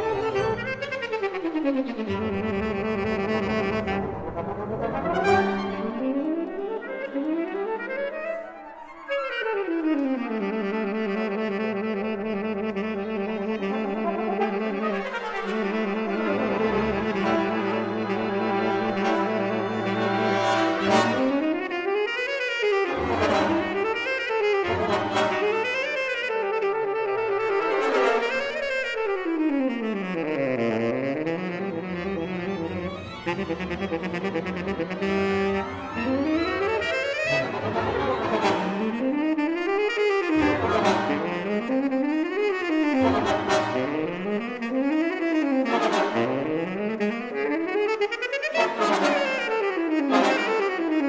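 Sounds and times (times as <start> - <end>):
strings and winds ensemble: 0.0 - 51.0
tenor saxophone solo: 0.0 - 51.0.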